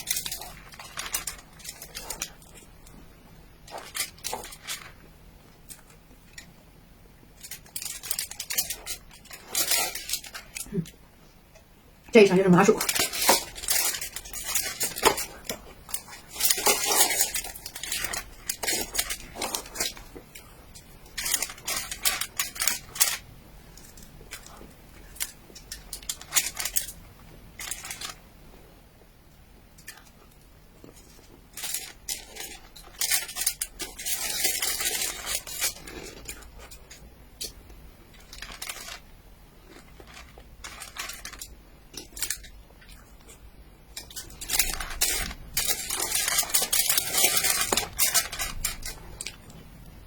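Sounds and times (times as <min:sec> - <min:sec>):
plastic packaging crinkling: 0:00.0 - 0:06.5, 0:07.4 - 0:11.0, 0:12.1 - 0:28.2, 0:29.8 - 0:49.9.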